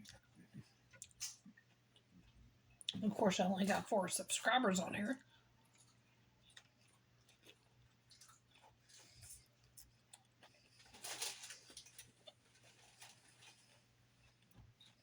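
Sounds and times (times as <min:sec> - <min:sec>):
chewing salad: 0:00.0 - 0:03.4, 0:05.2 - 0:15.0.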